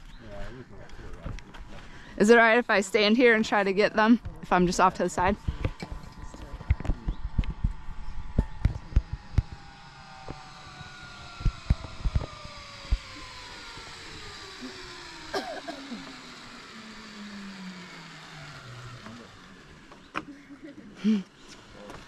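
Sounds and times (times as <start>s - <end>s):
zipline pulleys whining on cable: 0.0s - 22.0s.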